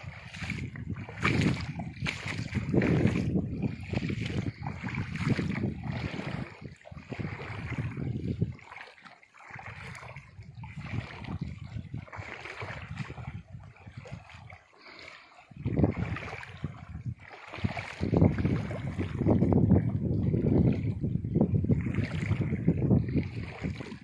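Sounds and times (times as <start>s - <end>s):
wind buffeting microphone: 0.0s - 8.7s, 9.6s - 14.6s, 15.5s - 24.0s
feet splashing through water: 0.0s - 24.0s.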